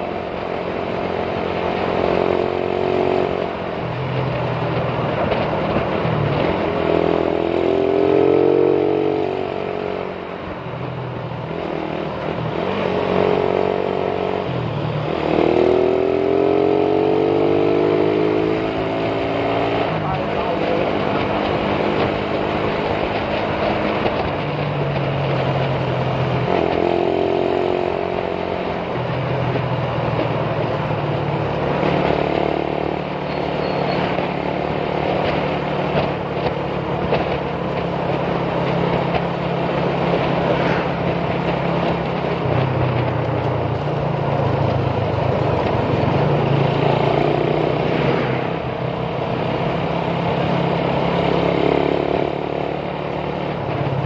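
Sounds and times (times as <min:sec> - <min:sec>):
motorcycle engine revving: 0:00.0 - 0:54.0
wind and road noise: 0:00.0 - 0:54.0.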